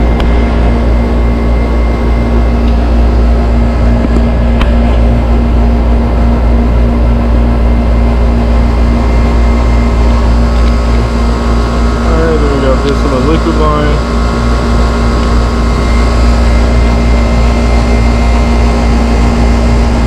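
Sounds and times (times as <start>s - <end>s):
compressor humming: 0.0s - 20.0s
condenser fan rushing: 0.0s - 20.0s.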